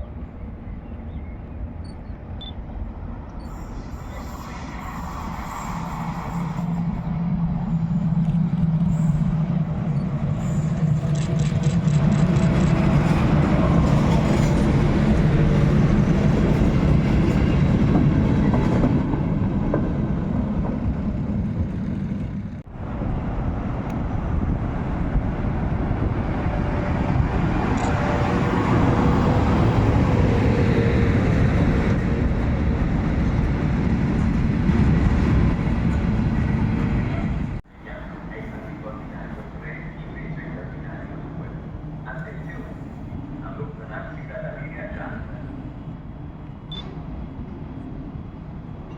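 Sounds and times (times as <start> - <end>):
locomotive drone: 0.0 - 48.9.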